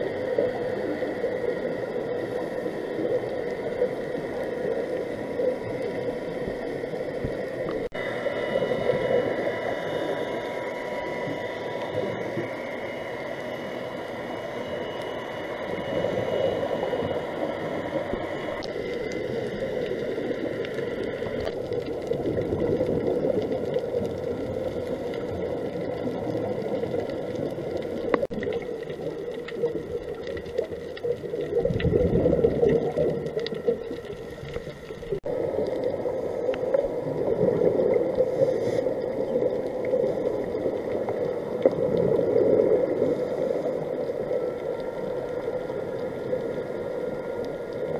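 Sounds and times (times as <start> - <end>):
faint steady hum: 0.0 - 47.9
muffled underwater rush of water: 0.0 - 47.9.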